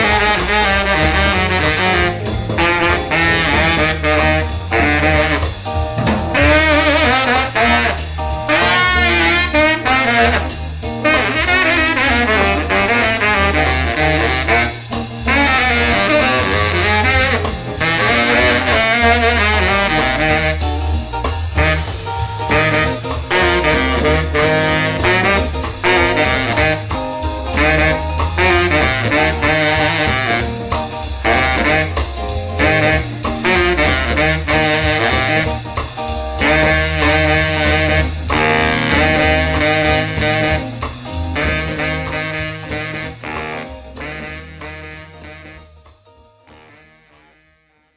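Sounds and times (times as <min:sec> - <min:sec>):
low bass line: 0:00.0 - 0:46.6
drum and cymbal hits: 0:00.0 - 0:46.9
saxophone jazz melody: 0:00.0 - 0:47.9.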